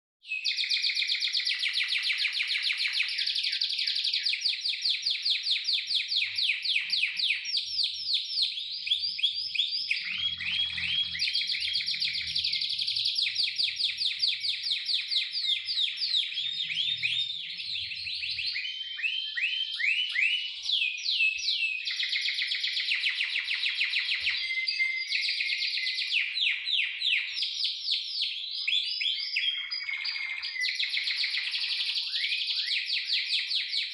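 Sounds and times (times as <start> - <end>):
canary singing trills: 0.2 - 33.9.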